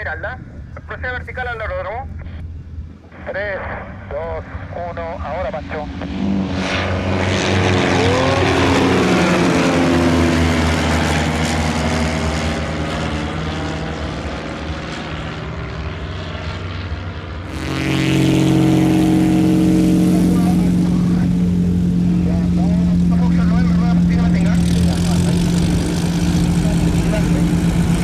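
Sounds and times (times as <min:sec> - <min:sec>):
plane engine running at high power: 0:00.0 - 0:28.0
light planes flying past: 0:03.0 - 0:28.0.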